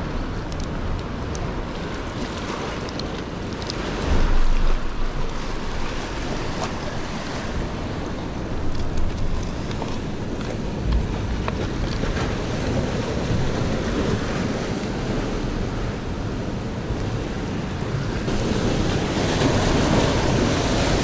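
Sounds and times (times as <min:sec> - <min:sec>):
surf washing against rocks: 0:00.0 - 0:21.0
wind buffeting microphone: 0:00.0 - 0:21.0.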